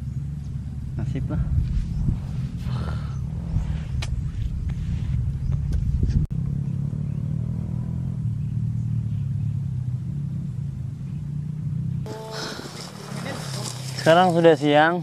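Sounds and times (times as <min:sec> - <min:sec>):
steady low engine hum: 0:00.0 - 0:13.9.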